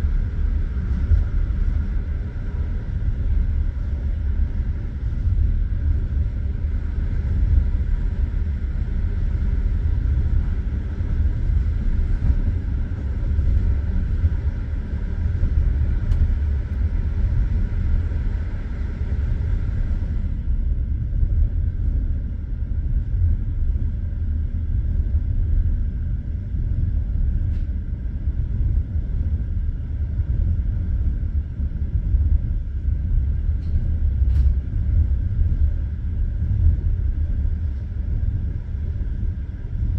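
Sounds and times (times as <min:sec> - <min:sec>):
train wheels rumbling on rails: 0:00.0 - 0:26.0, 0:26.6 - 0:39.9.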